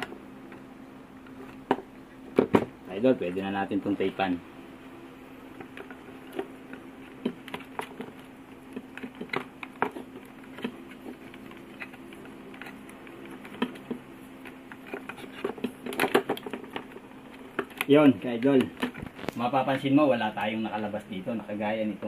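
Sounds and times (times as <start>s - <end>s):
electrical tape crackling: 0.0s - 22.0s.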